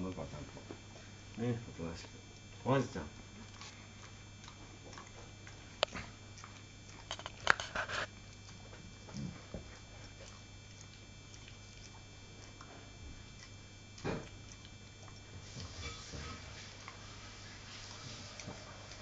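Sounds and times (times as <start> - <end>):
dog chewing at toothbrush: 0.0 - 19.0.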